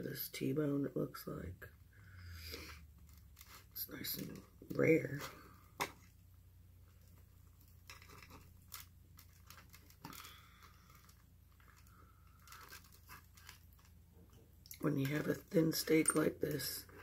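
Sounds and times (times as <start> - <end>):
faint clicks and rustles: 2.6 - 17.0.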